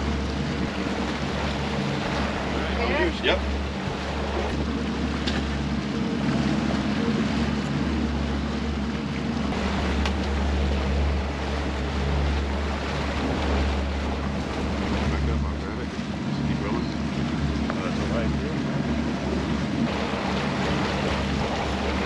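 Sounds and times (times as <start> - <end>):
boat wake rushing: 0.0 - 22.0
outboard motors droning: 0.0 - 22.0
wind: 0.0 - 22.0.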